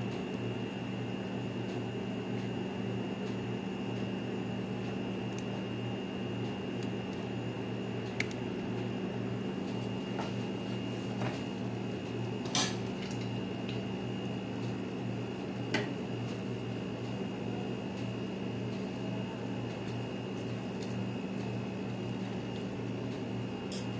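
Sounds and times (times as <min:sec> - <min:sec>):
mechanical hum with high whine: 0:00.0 - 0:23.9.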